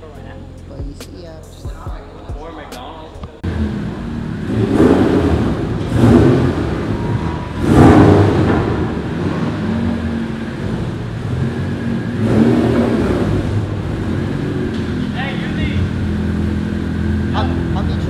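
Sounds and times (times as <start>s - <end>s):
car engine revving over idle: 3.4s - 18.0s.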